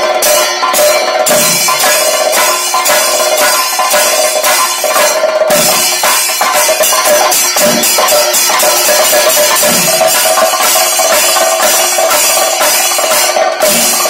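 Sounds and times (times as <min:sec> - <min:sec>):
drums beaten in a fast rhythm: 0:00.0 - 0:14.0
hand cymbals clashing: 0:00.0 - 0:14.0.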